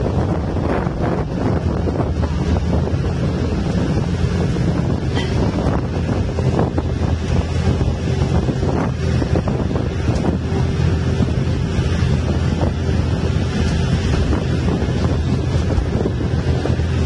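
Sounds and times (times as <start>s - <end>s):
bus engine rumble: 0.0s - 17.0s
road noise: 0.0s - 17.0s
wind buffeting microphone: 0.0s - 17.0s.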